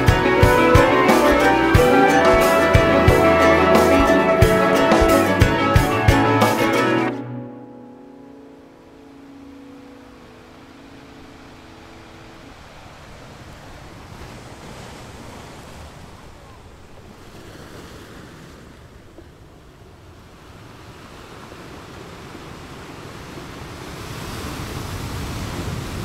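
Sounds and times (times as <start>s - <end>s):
waves splashing at shore: 0.0s - 7.0s, 8.4s - 26.0s.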